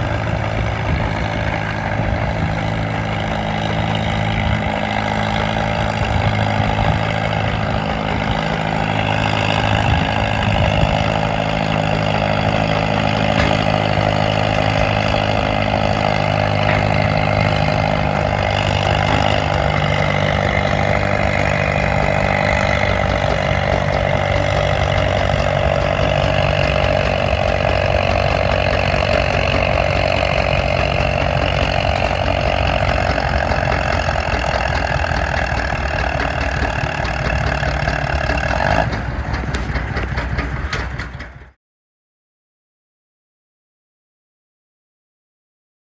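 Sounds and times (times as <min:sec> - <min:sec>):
tractor engine running: 0:00.0 - 0:41.6.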